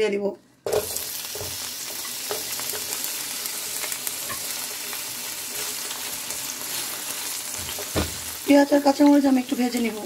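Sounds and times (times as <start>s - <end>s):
onions sizzling in hot oil: 0.6s - 10.0s.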